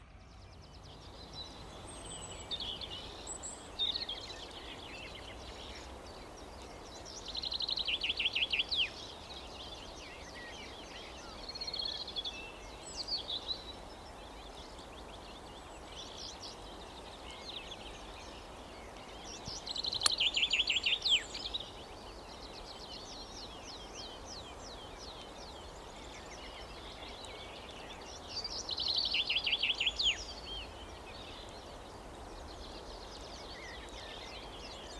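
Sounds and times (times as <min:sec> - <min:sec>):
outdoor background hiss: 0:00.0 - 0:34.9
songbirds singing: 0:00.0 - 0:34.9.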